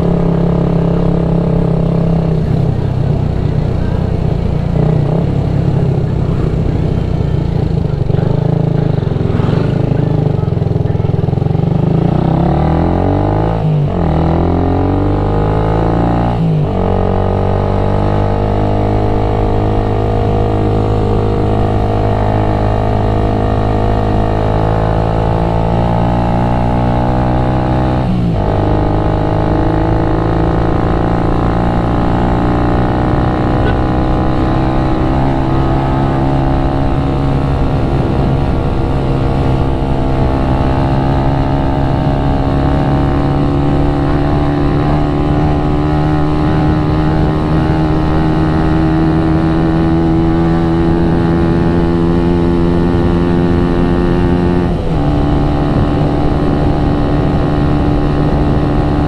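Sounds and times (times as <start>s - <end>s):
motorcycle engine changing gears: 0.0s - 59.0s.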